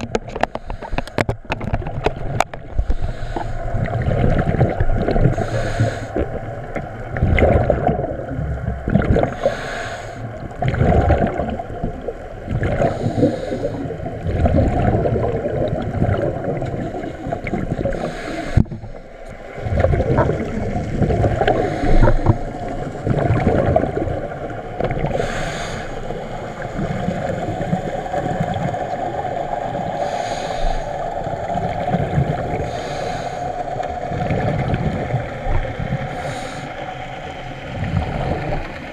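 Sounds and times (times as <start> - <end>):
underwater exhale bubbling: 2.2 - 38.9.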